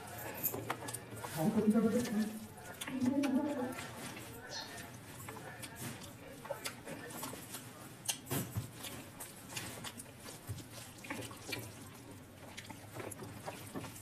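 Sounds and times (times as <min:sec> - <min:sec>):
person chewing wetly: 0:00.0 - 0:14.0.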